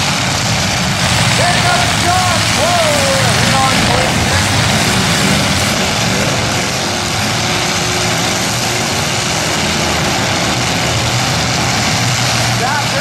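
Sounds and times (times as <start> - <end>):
car engines running hard: 0.0 - 13.0.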